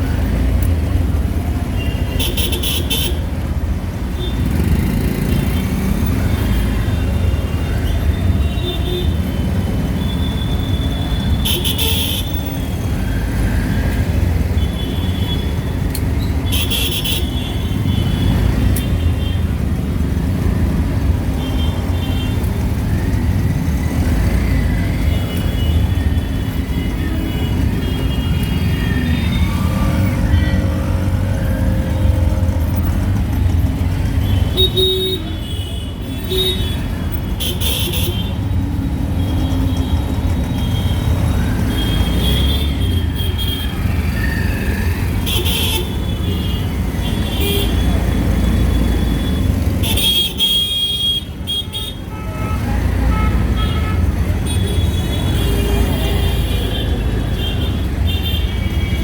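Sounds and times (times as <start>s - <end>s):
auto-rickshaw engine rumbling: 0.0s - 59.0s
street traffic: 0.0s - 59.0s
horns tooting: 4.2s - 59.0s.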